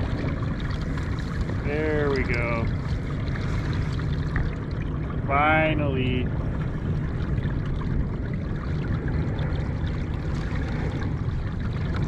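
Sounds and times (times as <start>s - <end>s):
water rushing against kayak hull: 0.0s - 12.0s.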